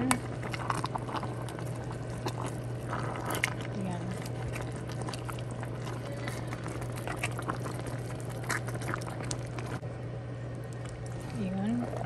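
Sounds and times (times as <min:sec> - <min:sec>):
stew bubbling and squelching: 0:00.0 - 0:09.8, 0:10.4 - 0:12.0
low hum: 0:00.0 - 0:12.0.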